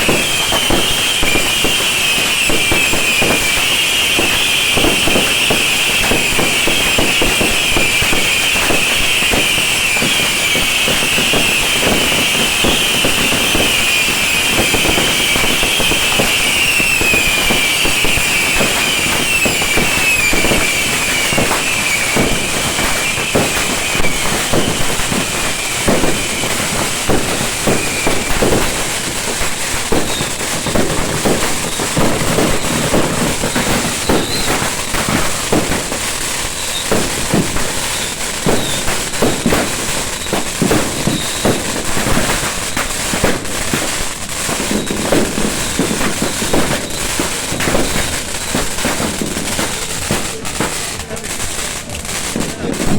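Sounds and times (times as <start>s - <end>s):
firework bangs and pops: 0.0s - 52.9s
rockets whistling: 0.0s - 52.9s.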